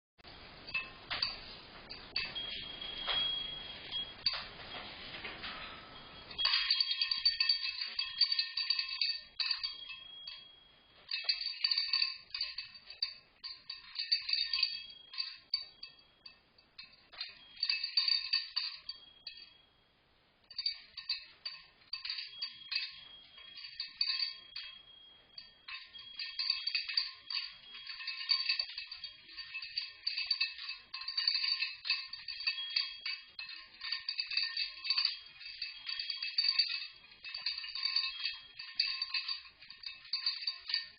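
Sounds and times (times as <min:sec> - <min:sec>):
small metal bells jingling: 0:00.3 - 0:40.9.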